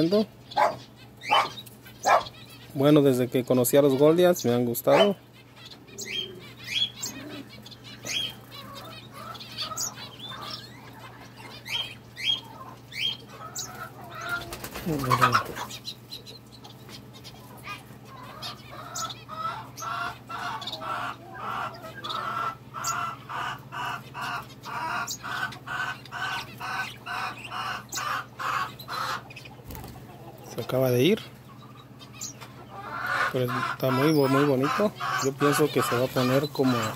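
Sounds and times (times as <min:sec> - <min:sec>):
birds chirping: 0:00.0 - 0:36.9
repeated bird calls: 0:00.0 - 0:36.9.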